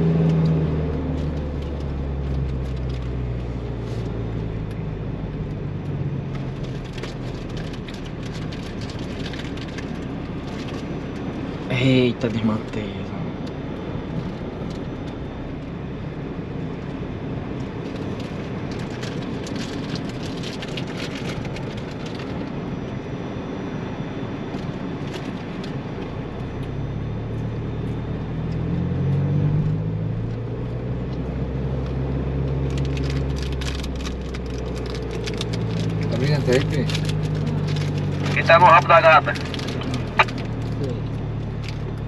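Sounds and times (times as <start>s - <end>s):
vehicle engine rumble: 0.0s - 42.0s.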